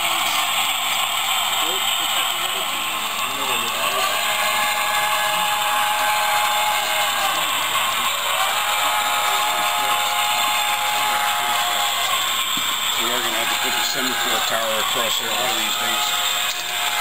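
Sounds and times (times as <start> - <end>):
model train motor whine: 0.0 - 17.0
wheels hissing on rail: 0.0 - 17.0.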